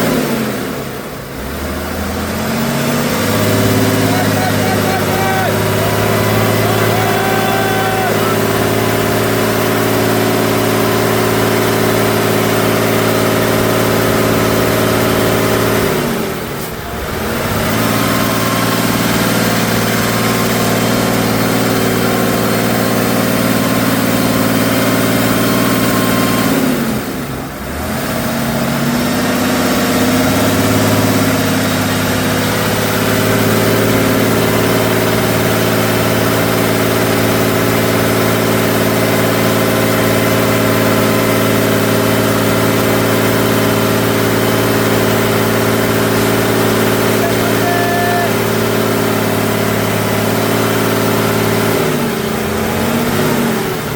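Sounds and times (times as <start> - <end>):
truck engine running under load: 0.0 - 53.9.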